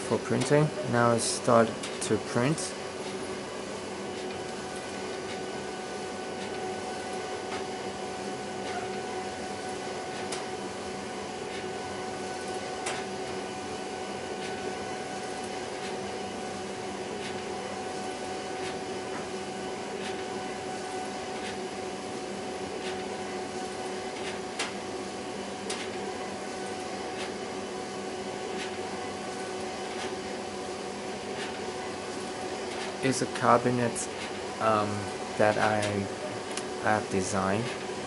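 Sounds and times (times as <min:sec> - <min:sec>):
printer whirring and humming: 0:00.0 - 0:38.0.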